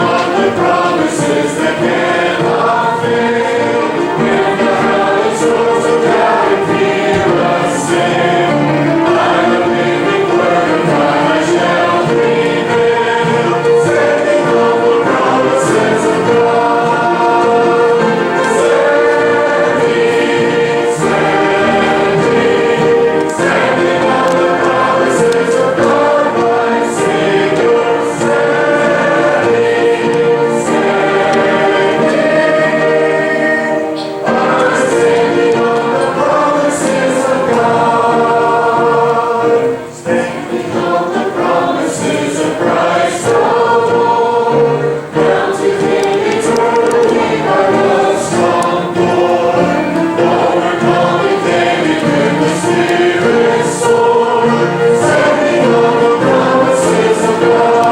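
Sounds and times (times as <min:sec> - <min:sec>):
choir singing worship song: 0:00.0 - 0:57.9.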